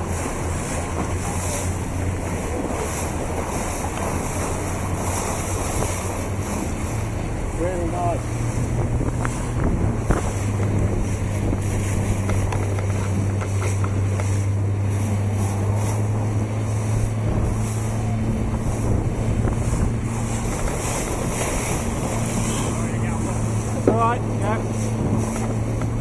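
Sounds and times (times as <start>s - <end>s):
motorboat engine humming: 0.0s - 26.0s
water rushing: 0.0s - 26.0s
wind buffeting microphone: 0.0s - 26.0s.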